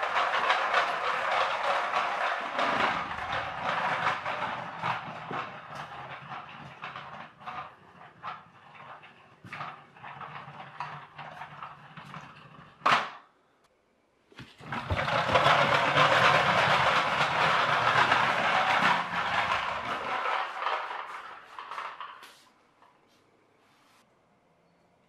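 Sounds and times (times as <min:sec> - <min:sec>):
toy tractor rattling on wooden floor: 0:00.0 - 0:13.2, 0:14.4 - 0:23.0.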